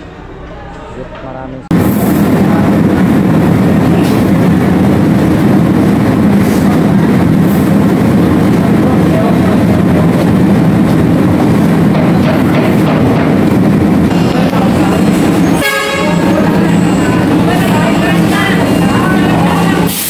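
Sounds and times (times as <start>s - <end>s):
heavy engine drone: 1.6s - 20.0s.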